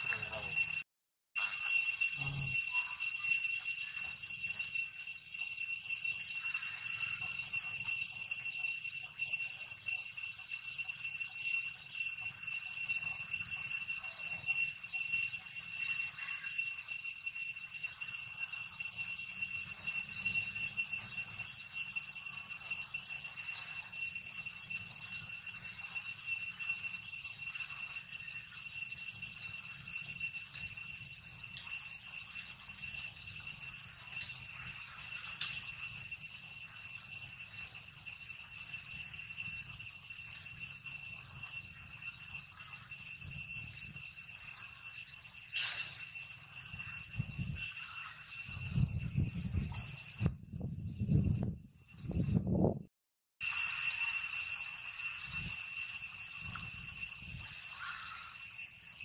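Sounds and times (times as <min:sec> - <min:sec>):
high-pitched insect chorus: 0:00.0 - 0:00.8, 0:01.4 - 0:52.7, 0:53.4 - 0:59.0.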